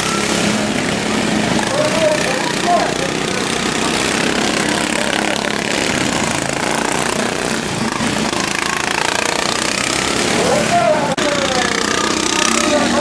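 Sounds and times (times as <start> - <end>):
racing lawnmower engines running: 0.0 - 13.0.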